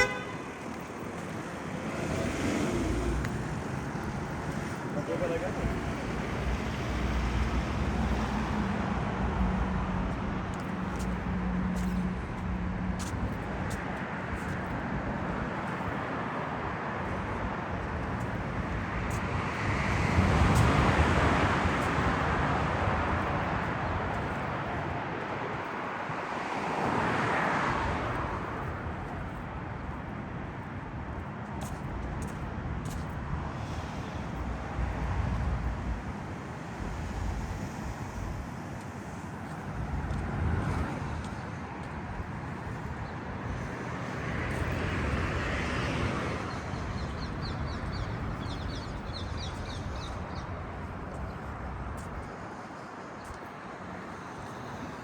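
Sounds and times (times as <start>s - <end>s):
city traffic noise: 0.0s - 55.0s.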